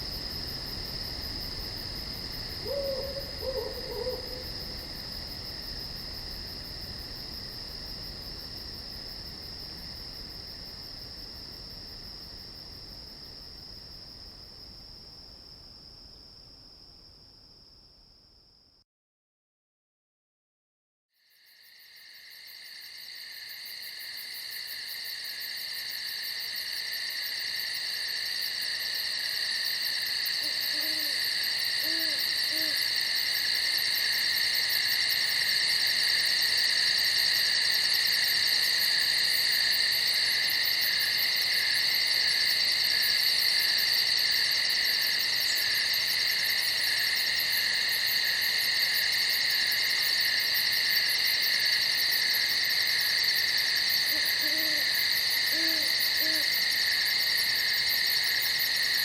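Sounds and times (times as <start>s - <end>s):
crickets trilling: 0.0s - 15.3s, 21.3s - 59.0s.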